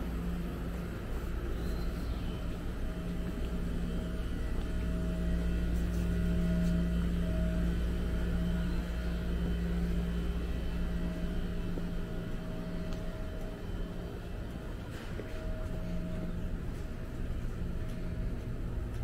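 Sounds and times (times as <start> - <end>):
motor running with hum: 0.0 - 19.0.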